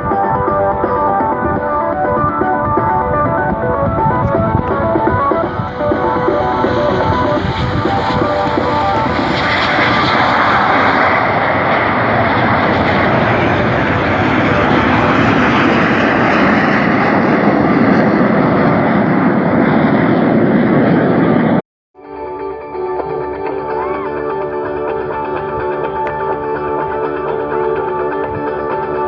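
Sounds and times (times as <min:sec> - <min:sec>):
aircraft engine passing overhead: 0:00.0 - 0:21.6, 0:23.0 - 0:29.0.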